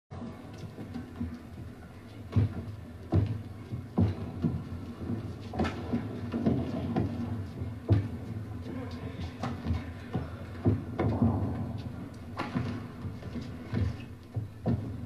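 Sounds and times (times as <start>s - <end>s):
low hall background noise: 0.1s - 15.0s.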